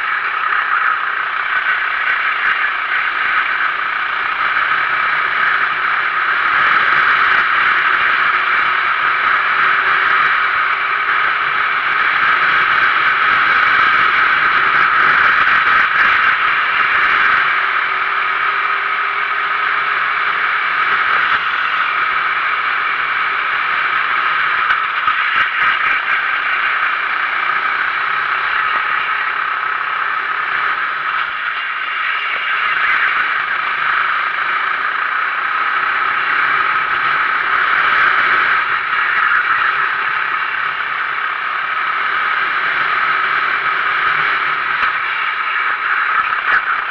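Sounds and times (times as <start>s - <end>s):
kart engine at racing speed: 0.0s - 46.9s.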